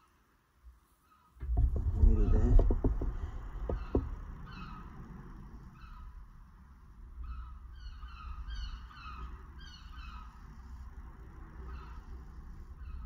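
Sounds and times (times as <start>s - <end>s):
low rumble: 1.4s - 13.0s.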